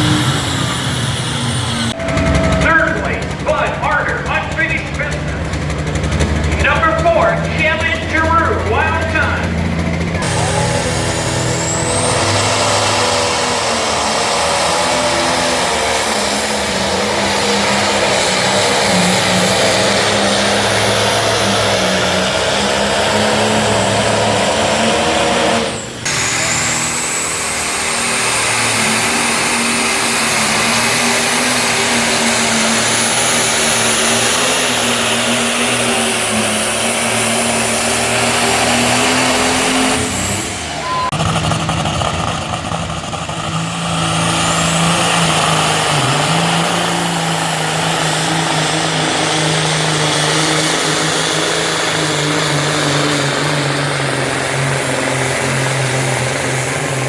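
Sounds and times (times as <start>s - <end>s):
engine at full throttle: 0.0s - 57.0s
lower-pitched engine: 0.0s - 57.0s.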